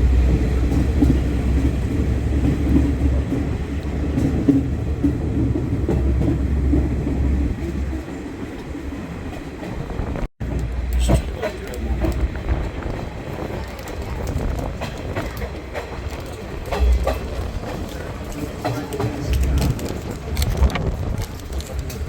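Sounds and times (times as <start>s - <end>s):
train rumbling and rattling on rails: 0.0s - 22.0s.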